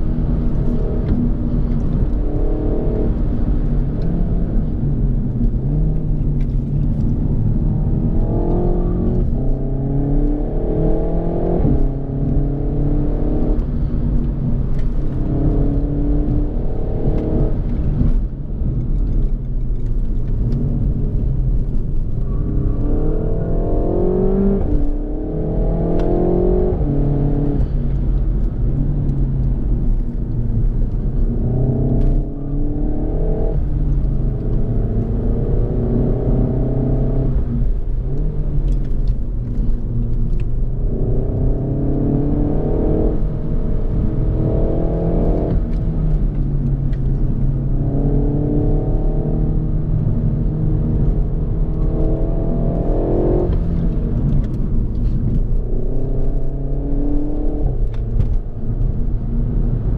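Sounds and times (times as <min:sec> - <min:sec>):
car engine accelerating hard: 0:00.0 - 0:59.9
road noise: 0:00.0 - 0:59.9.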